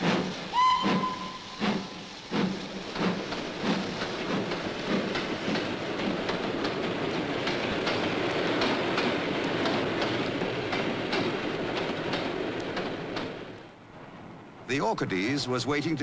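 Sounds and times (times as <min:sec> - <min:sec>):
train wheels clicking over rail joints: 0:00.0 - 0:13.8.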